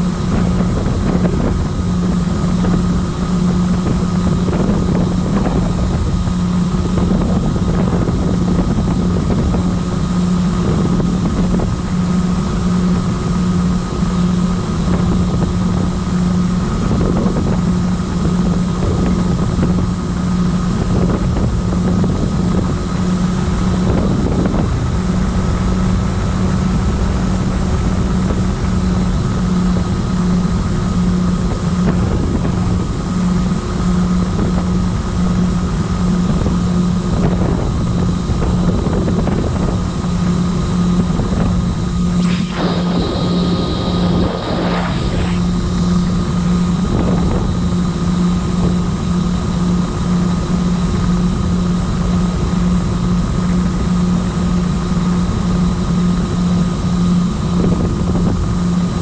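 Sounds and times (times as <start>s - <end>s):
electric motors and propellers humming: 0.0s - 59.0s
thin high whine: 0.0s - 59.0s.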